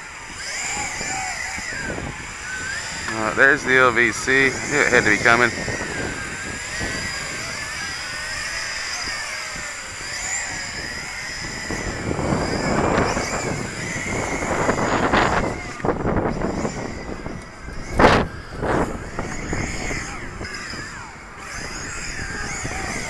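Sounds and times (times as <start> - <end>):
drone motors whining: 0.0 - 23.0
wind buffeting microphone: 0.0 - 23.0.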